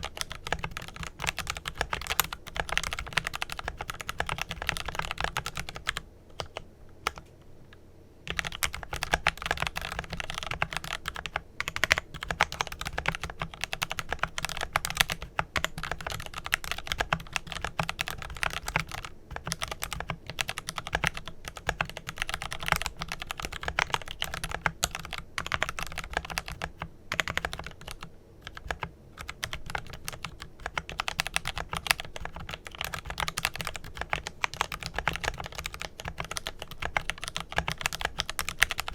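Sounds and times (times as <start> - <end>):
mechanical keyboard typing: 0.0 - 7.3, 8.3 - 38.9.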